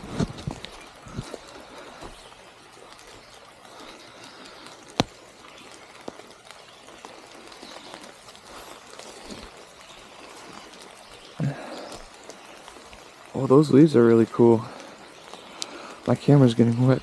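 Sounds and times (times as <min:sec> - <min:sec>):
rain dripping on leaves: 0:00.0 - 0:17.0
drops ticking close by: 0:00.6 - 0:17.0.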